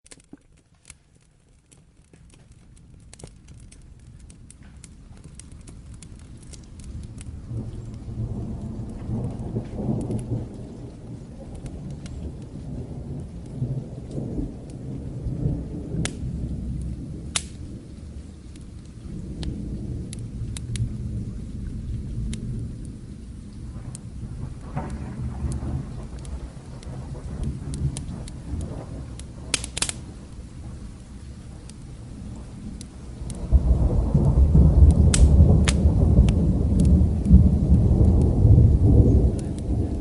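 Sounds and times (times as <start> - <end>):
rain: 0.0 - 40.0
wood fire crackling pops: 0.0 - 40.0
low rolling thunder: 4.1 - 40.0.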